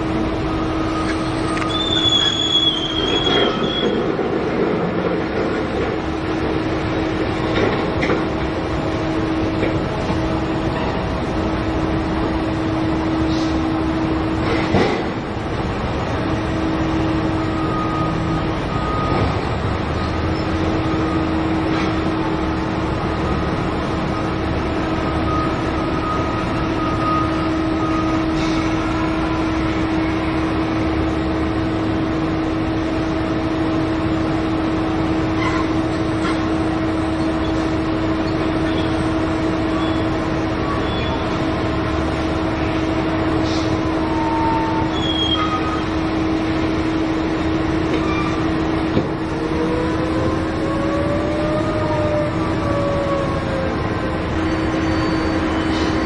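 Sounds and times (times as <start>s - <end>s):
heavy machinery drone: 0.0s - 56.0s.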